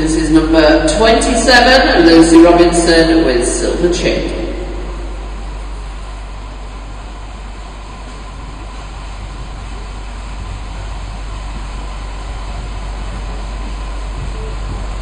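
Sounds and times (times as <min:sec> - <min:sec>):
low rumble: 0:01.5 - 0:15.0.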